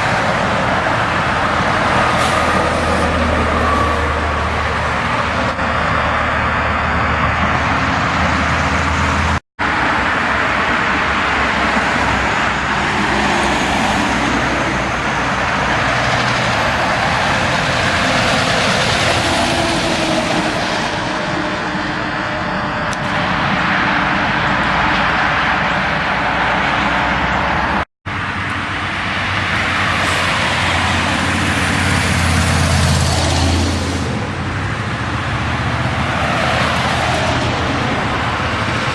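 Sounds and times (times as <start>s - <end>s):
road traffic with trucks: 0.0s - 38.9s.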